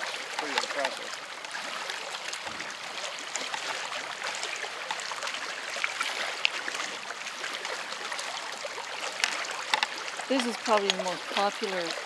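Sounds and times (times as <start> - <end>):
lake water lapping and splashing: 0.0 - 12.0.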